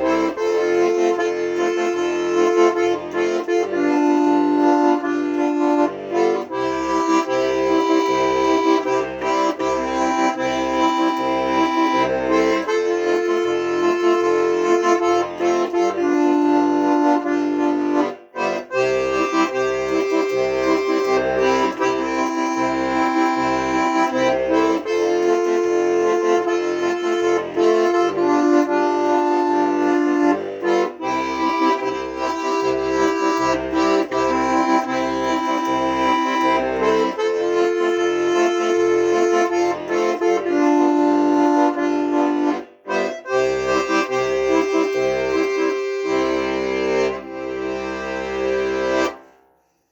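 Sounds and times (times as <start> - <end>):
accordion playing a tune: 0.0 - 49.9.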